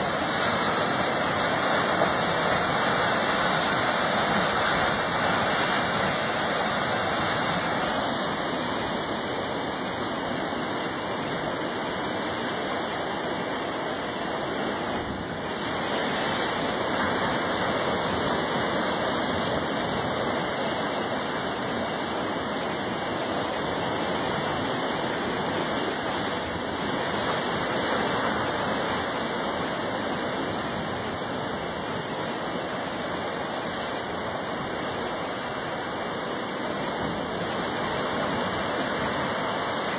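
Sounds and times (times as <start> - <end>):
ocean surf against rocks: 0.0 - 39.9.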